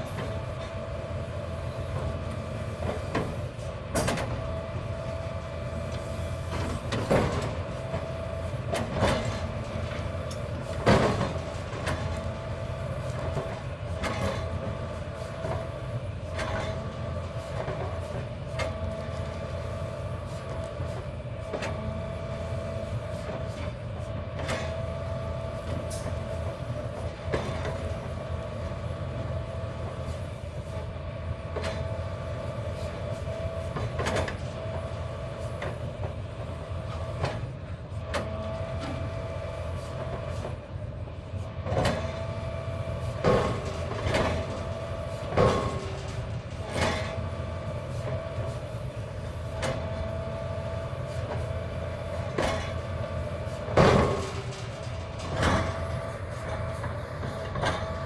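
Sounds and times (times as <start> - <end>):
excavator engine rumble: 0.0 - 58.0.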